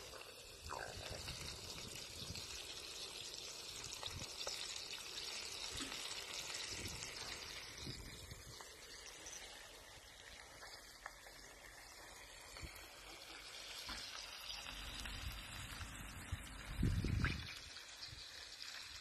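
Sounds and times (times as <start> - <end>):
sausages sizzling in a frying pan: 0.0 - 19.0.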